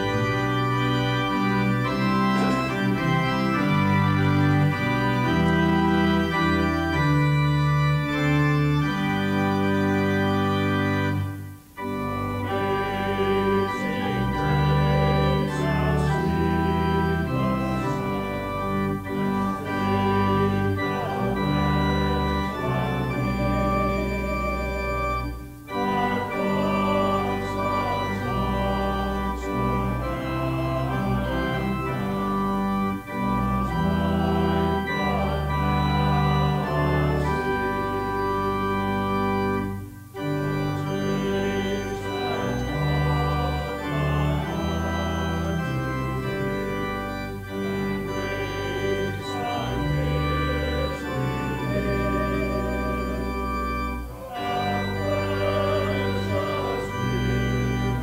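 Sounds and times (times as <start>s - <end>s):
church organ sustained chords: 0.0s - 58.0s.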